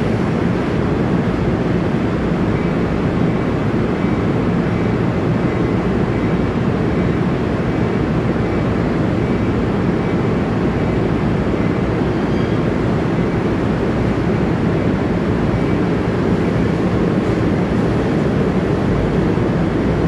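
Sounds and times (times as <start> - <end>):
train cars rumbling: 0.0 - 20.0.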